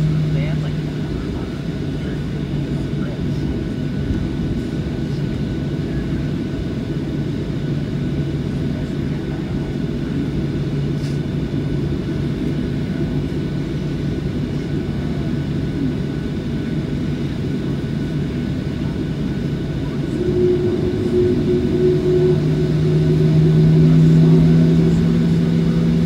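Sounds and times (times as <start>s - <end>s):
faint high engine whine: 0.0s - 26.0s
jet engines low hum: 0.0s - 26.0s.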